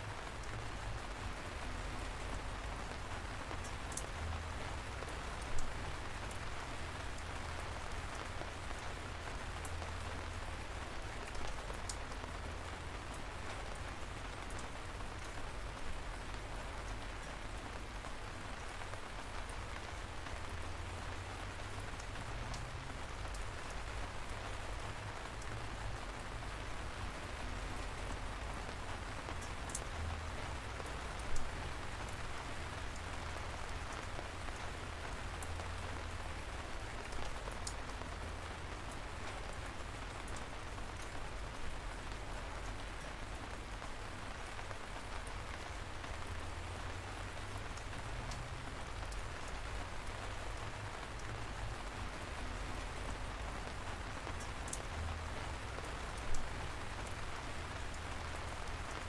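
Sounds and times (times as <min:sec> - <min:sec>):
light rain hissing: 0:00.0 - 0:59.0
raindrops tapping: 0:00.4 - 0:59.0.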